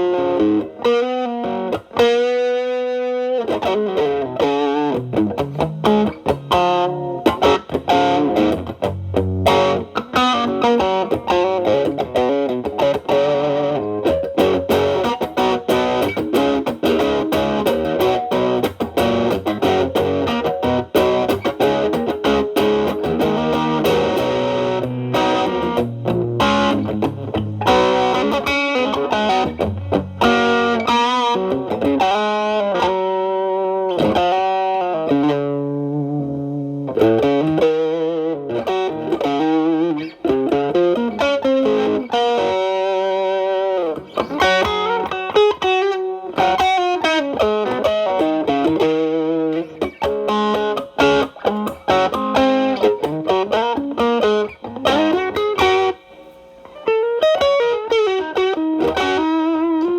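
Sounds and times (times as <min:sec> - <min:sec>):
distorted electric guitar lead: 0:00.0 - 0:59.9.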